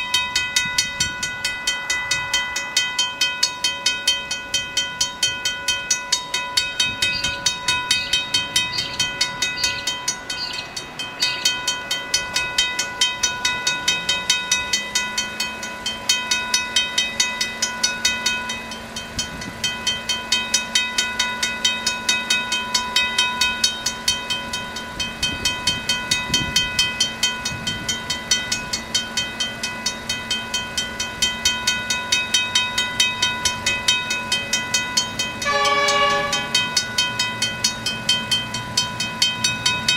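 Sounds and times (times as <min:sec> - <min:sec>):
level crossing bells ringing: 0:00.0 - 0:39.9.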